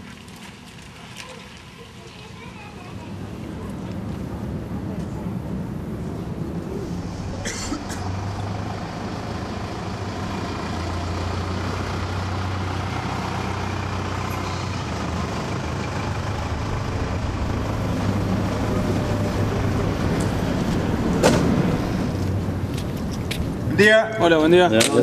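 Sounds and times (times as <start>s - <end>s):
pickup truck engine humming: 2.8s - 24.6s.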